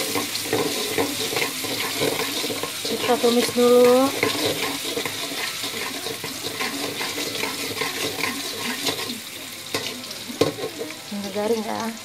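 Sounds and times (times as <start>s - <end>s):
garlic sizzling in hot oil: 0.0s - 12.0s.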